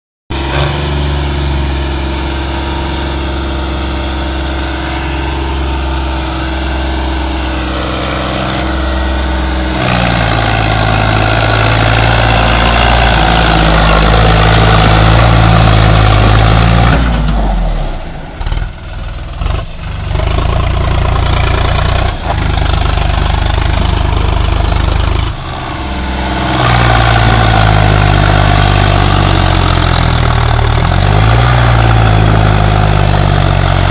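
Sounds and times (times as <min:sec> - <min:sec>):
tractor diesel engine revving: 0:00.3 - 0:33.9.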